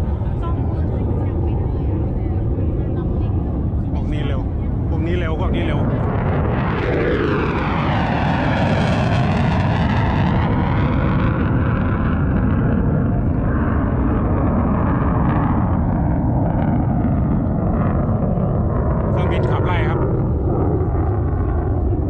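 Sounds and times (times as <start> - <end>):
airplane flying past: 0.0 - 22.0.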